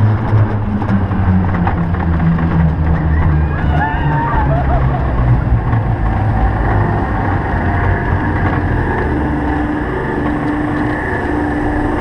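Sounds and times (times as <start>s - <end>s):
coaster cars rumbling on track: 0.0s - 12.0s.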